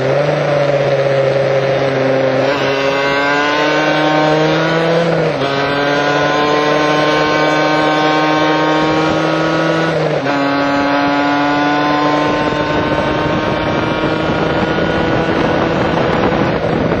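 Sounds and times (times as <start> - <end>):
motorcycle engine accelerating: 0.0 - 17.0
wind on microphone: 0.0 - 17.0.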